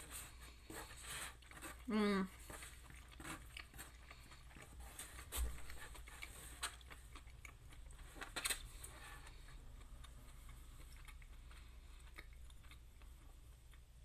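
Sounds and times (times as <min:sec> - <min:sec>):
person chewing and eating: 0:00.0 - 0:14.0.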